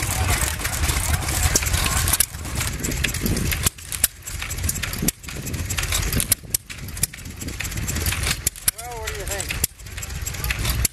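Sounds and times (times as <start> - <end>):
sharp metallic clicks: 0.0 - 10.9
stationary engine rumbling: 0.0 - 10.9.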